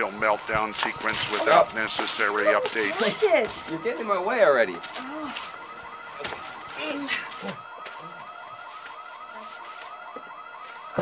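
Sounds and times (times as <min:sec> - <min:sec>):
electronic alarm chirping: 0:00.0 - 0:11.0.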